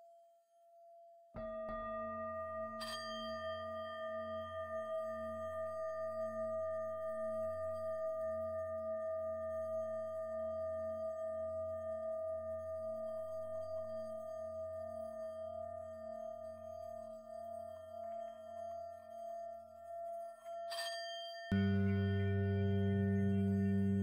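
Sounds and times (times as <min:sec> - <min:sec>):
singing bowl ringing: 0:01.4 - 0:24.0.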